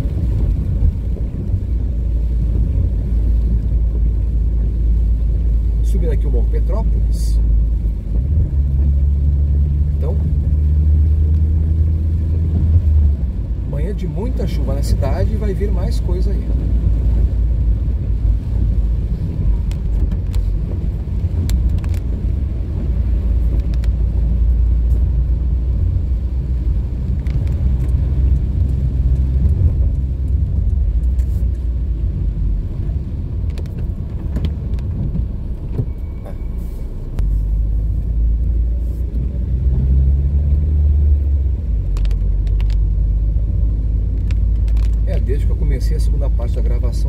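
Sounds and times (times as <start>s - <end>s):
engine and tyres on wet road: 0.0s - 47.0s.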